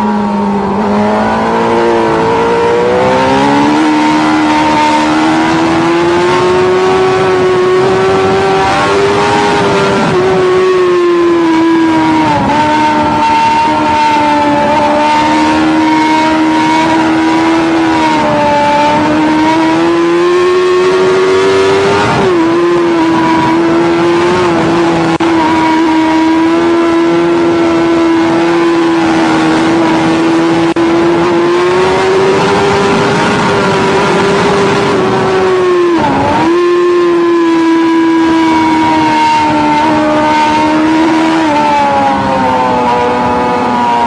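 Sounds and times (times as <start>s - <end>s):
motorcycle engine at high revs: 0.0s - 44.0s.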